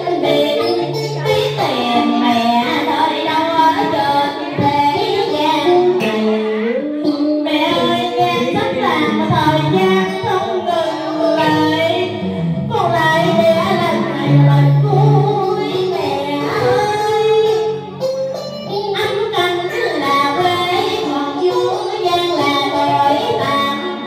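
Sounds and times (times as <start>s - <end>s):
low musical accompaniment: 0.0s - 24.0s
woman singing into a microphone: 0.0s - 24.0s.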